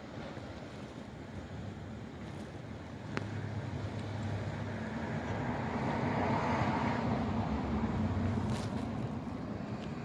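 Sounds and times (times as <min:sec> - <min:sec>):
wind: 0:00.0 - 0:10.0.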